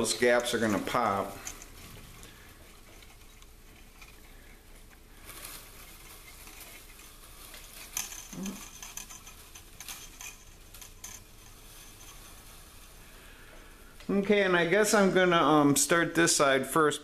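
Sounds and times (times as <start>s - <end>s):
wire strands scratching and ticking: 0.0s - 16.5s.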